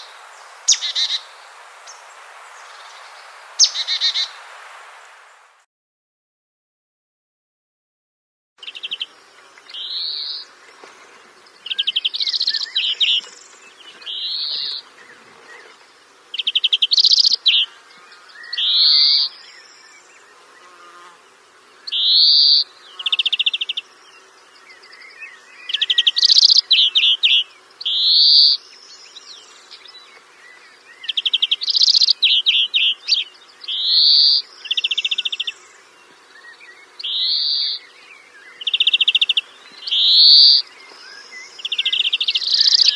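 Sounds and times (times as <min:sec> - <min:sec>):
songbird singing trills: 0:00.0 - 0:04.4, 0:08.6 - 0:42.9.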